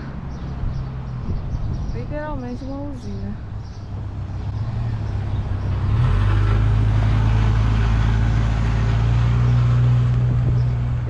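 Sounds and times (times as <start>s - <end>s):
car engine and road noise drone: 0.0s - 11.0s.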